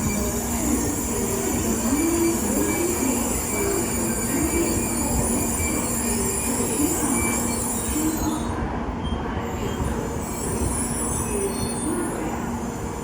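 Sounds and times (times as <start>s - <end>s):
high-speed train rumbling: 0.0s - 13.0s.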